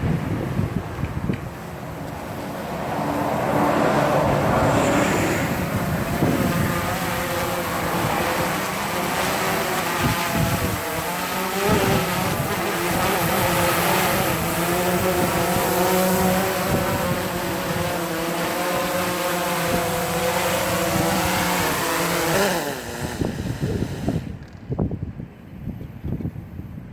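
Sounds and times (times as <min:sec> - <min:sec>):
drone propellers buzzing: 0:00.0 - 0:24.7.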